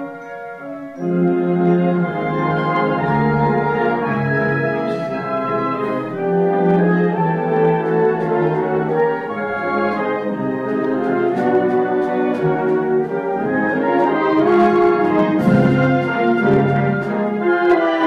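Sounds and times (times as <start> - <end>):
military band playing brass chords: 0.0 - 18.0.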